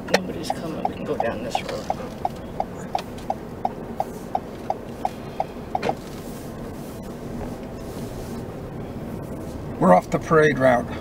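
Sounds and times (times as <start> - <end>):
turn signal ticking: 0.0 - 9.3
car cabin road noise: 0.0 - 11.0.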